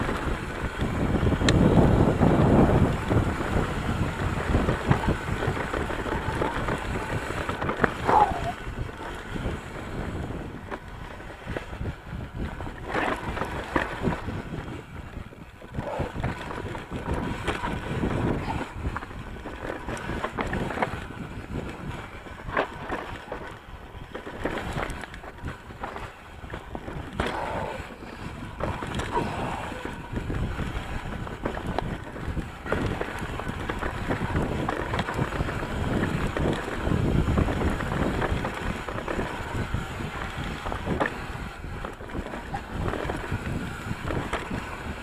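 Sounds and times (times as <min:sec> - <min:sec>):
bike knocks and rattles: 0:00.0 - 0:45.0
tyres crunching over trail: 0:00.0 - 0:45.0
wind rumbling on microphone: 0:00.0 - 0:45.0.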